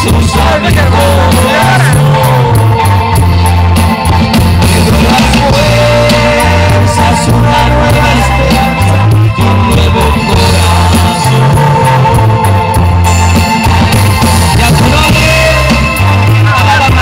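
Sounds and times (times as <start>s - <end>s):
heavy bass line: 0.0s - 17.0s
live band amplified music: 0.0s - 17.0s.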